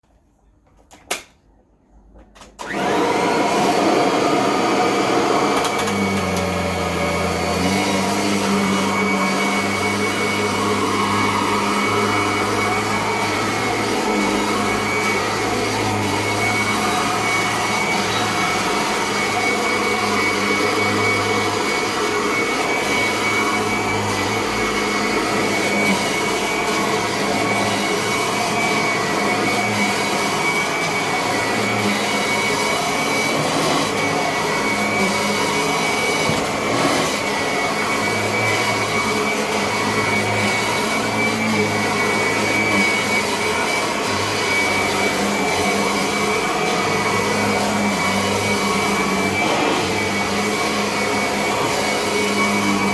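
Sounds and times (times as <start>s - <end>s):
vacuum cleaner running: 2.4s - 52.9s.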